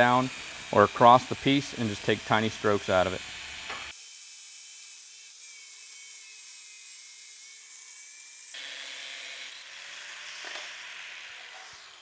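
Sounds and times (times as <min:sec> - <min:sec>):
angle grinder cutting steel: 0:00.0 - 0:12.0.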